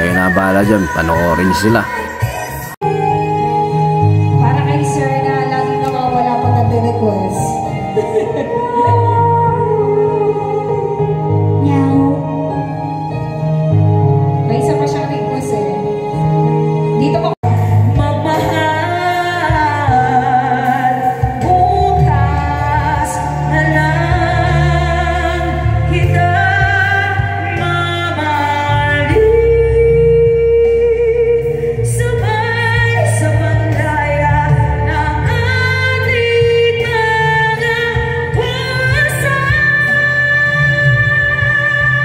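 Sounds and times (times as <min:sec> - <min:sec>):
backing track with bass line: 0:00.0 - 0:42.0
woman singing into microphone: 0:00.0 - 0:42.0.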